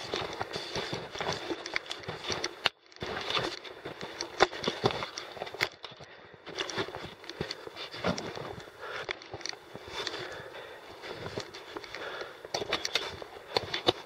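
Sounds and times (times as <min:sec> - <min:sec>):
footsteps crunching on rocky ground: 0:00.0 - 0:14.0.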